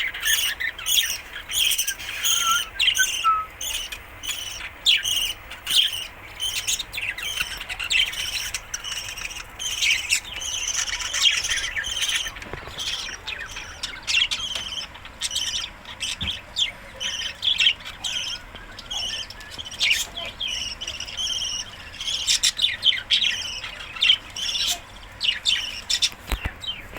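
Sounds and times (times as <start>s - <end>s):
budgerigars chattering: 0.0s - 26.9s.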